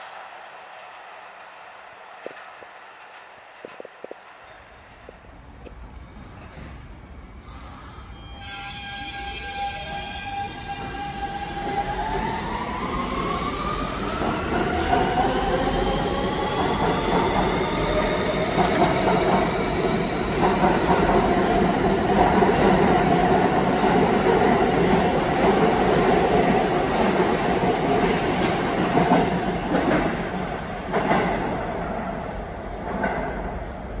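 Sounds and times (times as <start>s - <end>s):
subway train motors whining: 0.0s - 34.0s.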